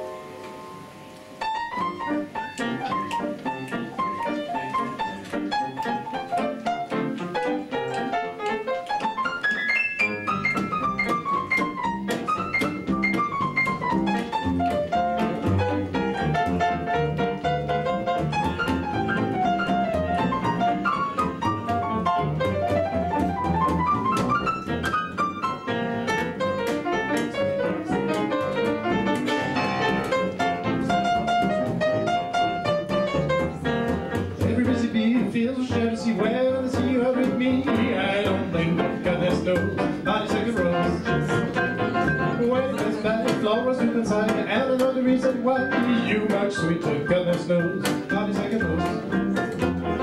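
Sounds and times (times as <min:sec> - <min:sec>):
jazz piano runs: 0:00.0 - 0:50.0
double bass line: 0:01.7 - 0:50.0.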